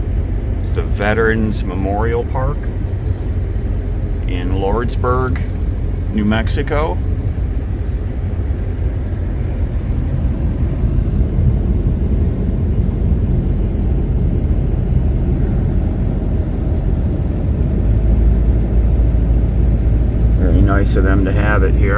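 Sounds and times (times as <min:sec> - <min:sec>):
engine and road rumble: 0:00.0 - 0:21.9.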